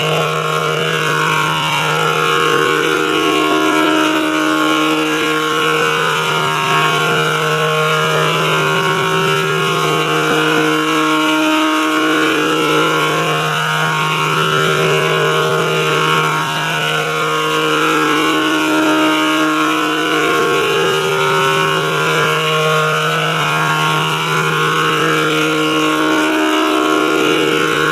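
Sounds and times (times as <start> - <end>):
sustained drone of held tones: 0.0 - 27.9.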